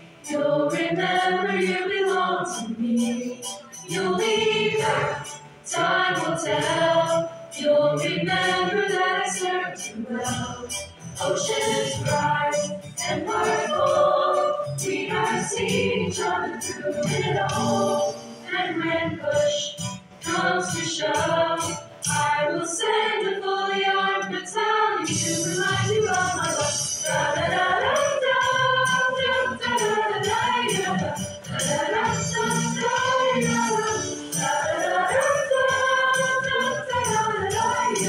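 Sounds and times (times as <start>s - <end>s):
mixed choir singing: 0.0s - 38.0s.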